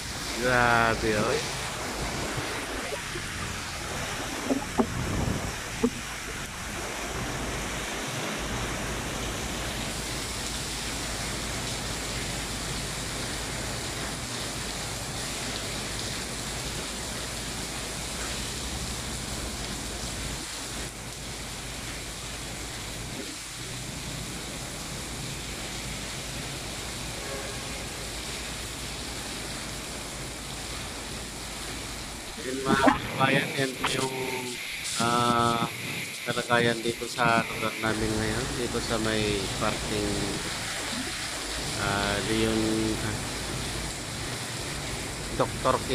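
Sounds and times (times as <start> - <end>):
low rumble of wind: 0.0 - 36.3, 36.9 - 45.9
heavy rain: 0.0 - 45.9.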